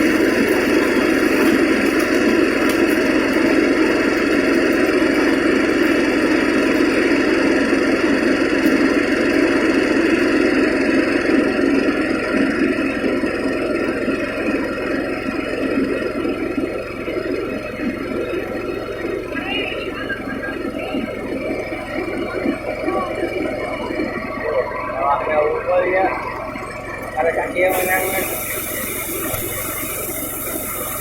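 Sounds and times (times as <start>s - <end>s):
threshing machine humming: 0.0s - 31.0s.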